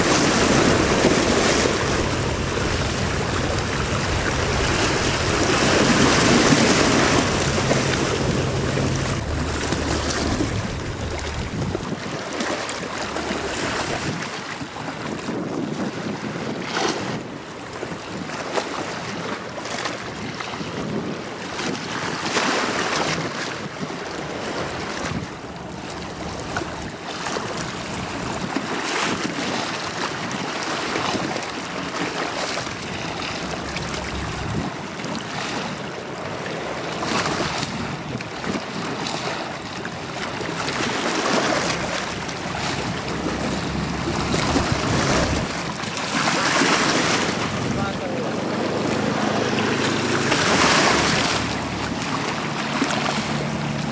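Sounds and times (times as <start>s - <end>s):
rush of water from ferry wake: 0.0s - 53.9s
wind gusting on microphone: 0.0s - 53.9s.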